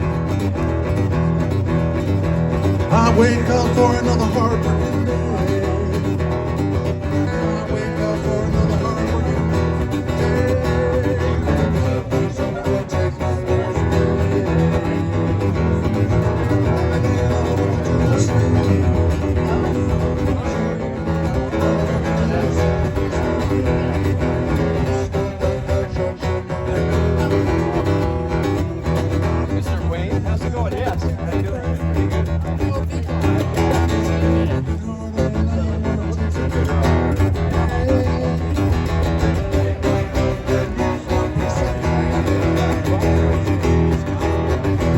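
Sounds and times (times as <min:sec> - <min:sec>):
instrumental blues-rock music: 0:00.0 - 0:44.9.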